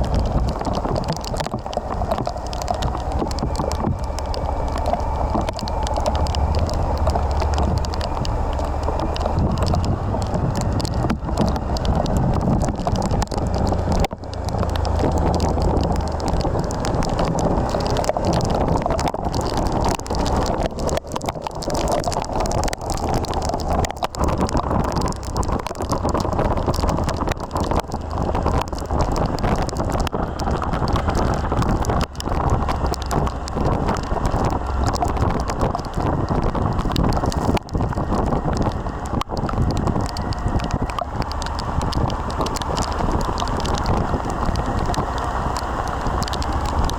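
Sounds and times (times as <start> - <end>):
motorcycle engine drone: 0.0 - 46.9
wind rushing over microphone: 0.0 - 46.9.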